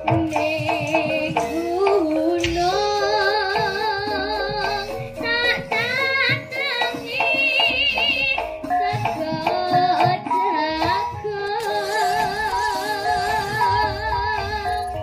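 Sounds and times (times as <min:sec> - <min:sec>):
drums: 0:00.0 - 0:15.0
instrumental accompaniment: 0:00.0 - 0:15.0
woman singing into a microphone: 0:00.0 - 0:15.0.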